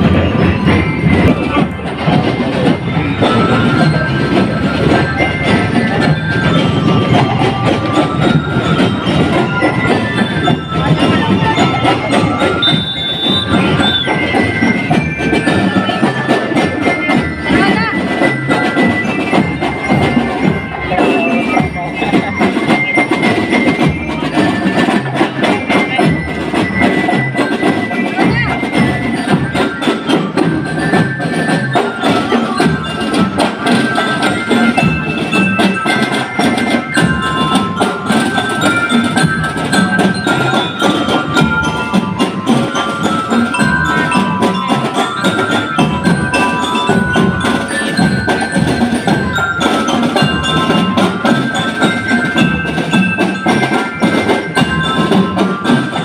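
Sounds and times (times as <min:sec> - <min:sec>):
bell-lyre melody: 0:00.0 - 0:56.0
marching drums beat: 0:00.0 - 0:56.0.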